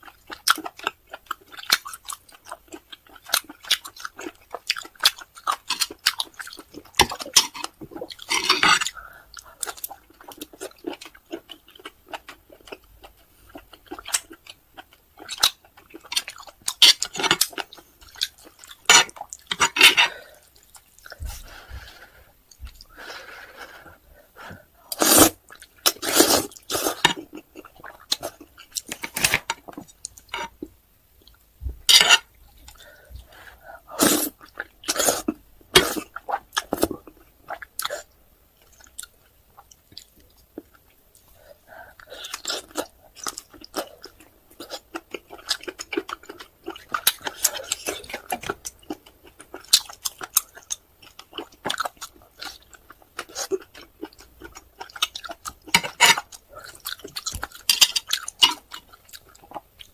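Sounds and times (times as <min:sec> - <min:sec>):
close chewing mouth sounds: 0:00.0 - 0:59.9.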